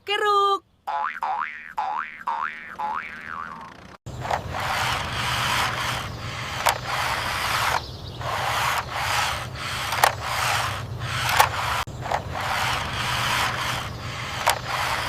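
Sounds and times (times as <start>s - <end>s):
toy wheels rolling and scraping: 2.9s - 15.0s.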